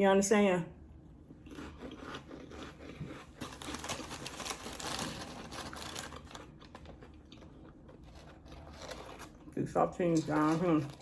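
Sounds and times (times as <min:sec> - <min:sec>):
crackers crackling and crunching: 0:01.4 - 0:11.0.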